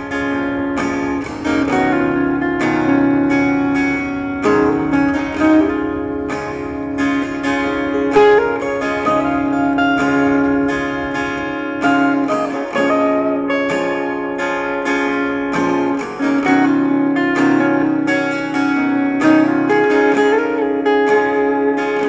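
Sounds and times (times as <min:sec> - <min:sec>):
acoustic guitar plucked and strummed: 0:00.0 - 0:22.0
held accompaniment: 0:00.0 - 0:22.0.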